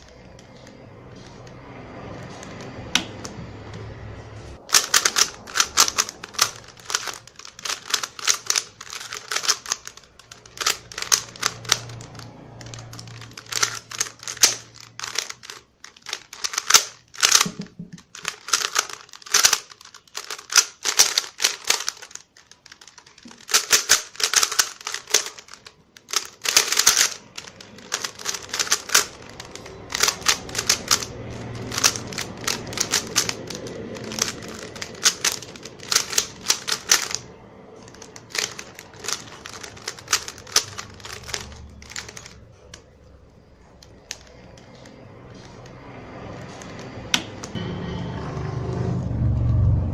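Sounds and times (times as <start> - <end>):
rubik's cube clicking: 4.6 - 42.9, 43.7 - 45.7.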